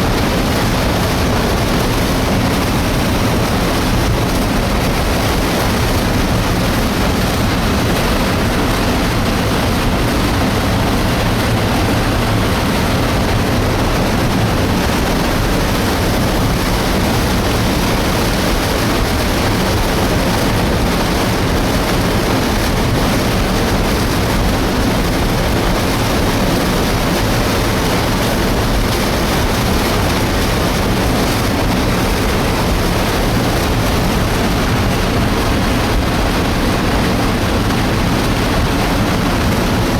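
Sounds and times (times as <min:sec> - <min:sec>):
debris flow rushing down channel: 0:00.0 - 0:39.9.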